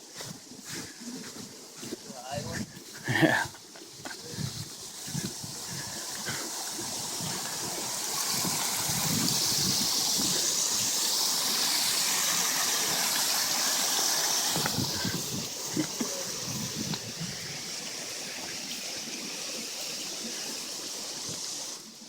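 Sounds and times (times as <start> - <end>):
water pouring and splashing: 0.0 - 22.0.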